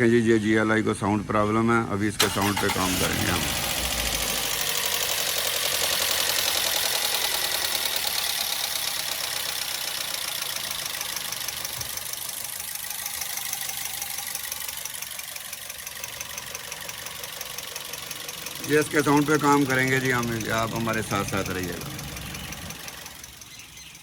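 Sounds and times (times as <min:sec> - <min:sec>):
engine idling with ticking clatter: 0:02.2 - 0:24.0.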